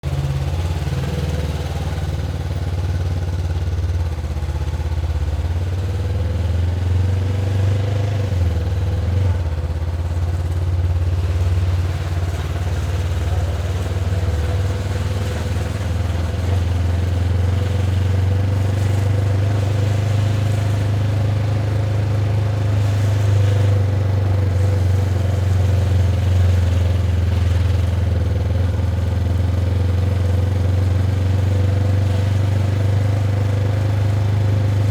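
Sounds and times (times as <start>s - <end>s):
motorcycle engine running steadily: 0.0s - 34.9s.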